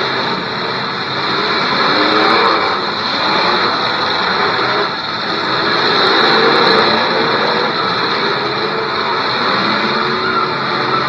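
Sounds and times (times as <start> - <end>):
many car engines revving: 0.0 - 11.0.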